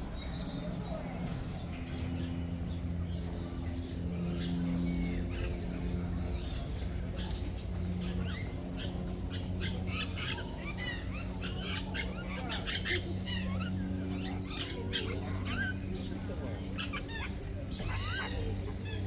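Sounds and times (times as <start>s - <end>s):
birds chirping and squawking: 0.0s - 19.0s
steady low hum: 0.0s - 19.0s.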